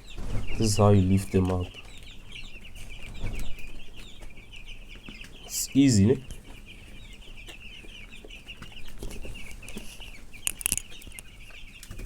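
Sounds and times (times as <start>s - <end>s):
chickens cheeping: 0.0s - 12.0s.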